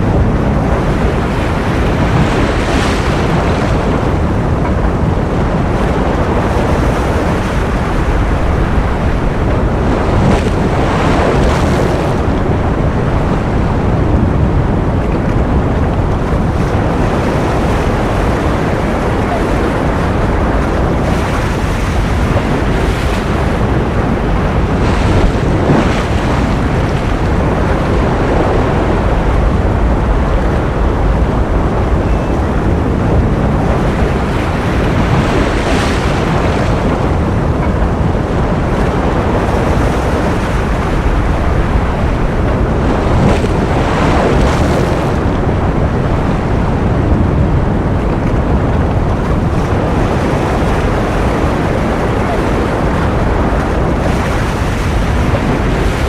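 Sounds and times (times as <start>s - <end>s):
ocean surf: 0.0s - 56.0s.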